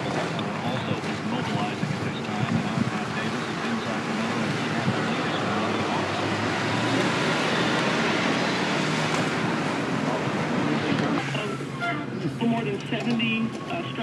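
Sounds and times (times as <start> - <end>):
faint talking: 0.0 - 8.4, 10.0 - 14.0
car road and wind noise: 0.0 - 14.0.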